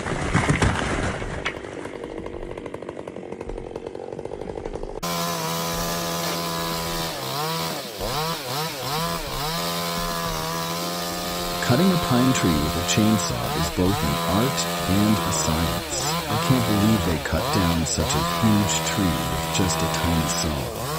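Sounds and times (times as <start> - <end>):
chainsaw engine running: 1.4 - 20.9.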